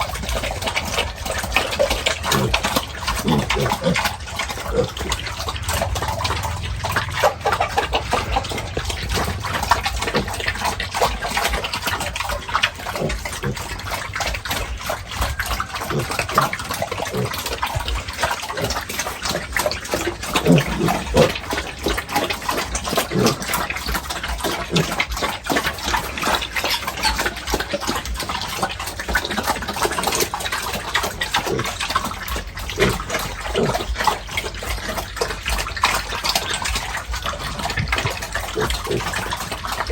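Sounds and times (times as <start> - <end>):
pigs grunting: 0.0 - 39.9
water splashing and sloshing: 0.0 - 39.9.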